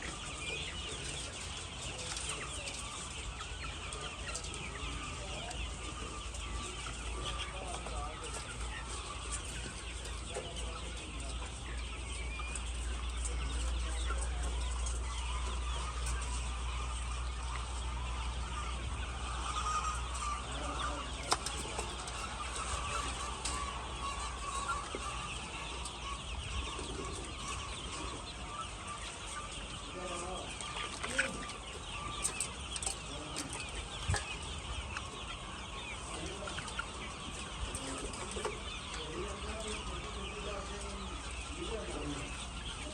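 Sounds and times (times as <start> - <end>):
hens clucking: 0.0 - 42.9.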